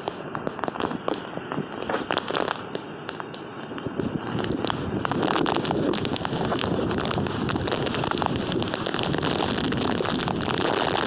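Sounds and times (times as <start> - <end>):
sharp cracks and clicks: 0.0 - 11.0
wind gusting: 0.0 - 11.0.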